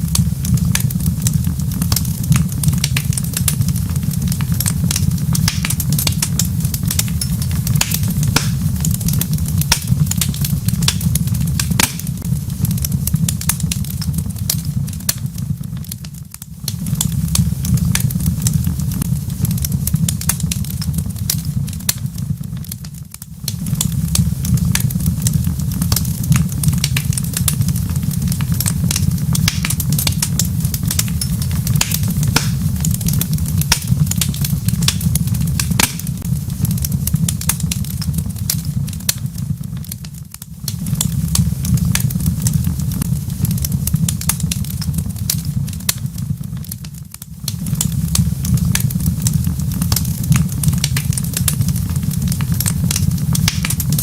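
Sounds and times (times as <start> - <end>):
low rumble of fire: 0.0 - 54.0
sharp pops and snaps of fire: 0.0 - 54.0.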